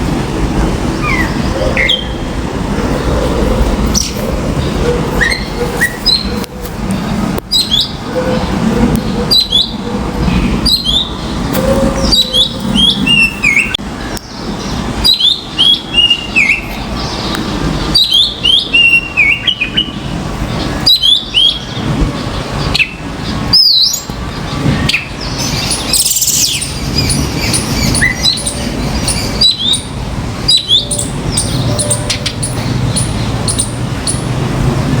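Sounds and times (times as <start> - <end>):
birds chirping and whistling: 1.0 - 2.3, 2.9 - 34.5.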